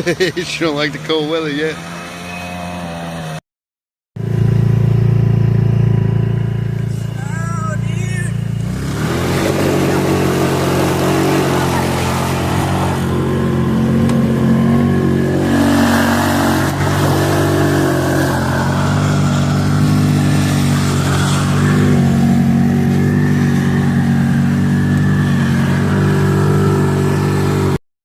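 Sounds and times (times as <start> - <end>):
car engine running: 4.2 - 27.8.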